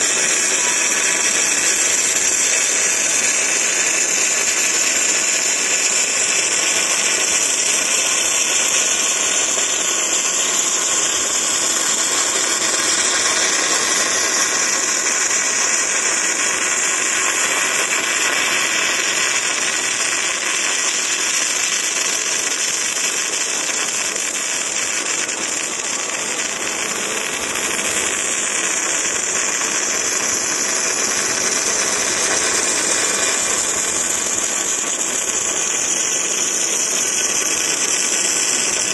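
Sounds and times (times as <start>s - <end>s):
welding arc hissing: 0.0s - 38.9s.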